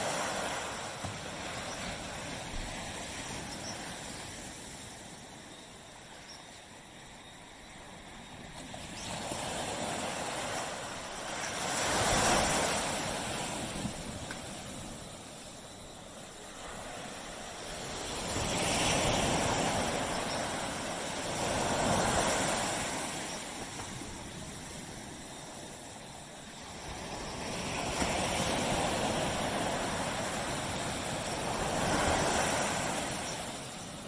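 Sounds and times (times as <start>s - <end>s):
waves washing onto beach: 0.0s - 34.0s.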